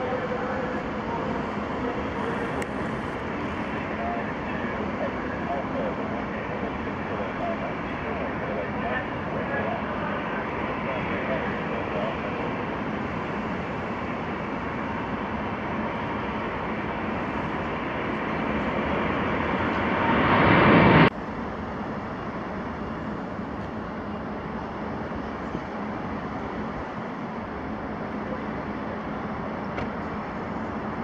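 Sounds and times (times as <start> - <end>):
jet engines at take-off thrust: 0.0 - 31.0
steady jet rumble: 0.0 - 31.0.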